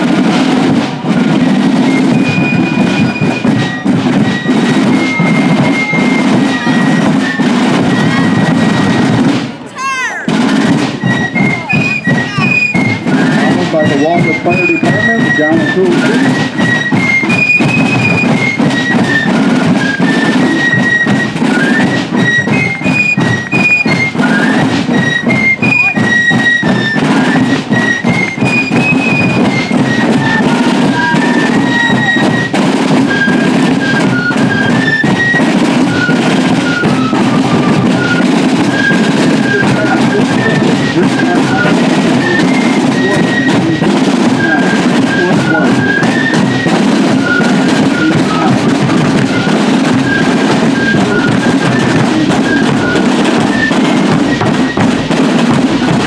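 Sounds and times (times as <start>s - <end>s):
snare and bass drums: 0.0s - 56.0s.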